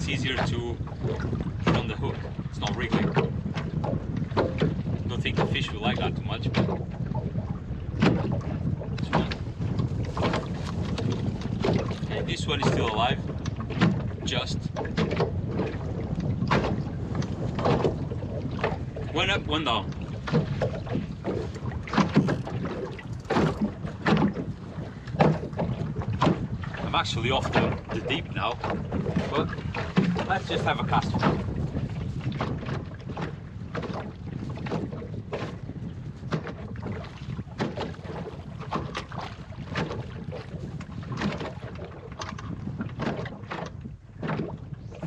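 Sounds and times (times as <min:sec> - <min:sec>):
small waves slapping a hull: 0:00.0 - 0:45.0
wind rumble on microphone: 0:00.0 - 0:45.0.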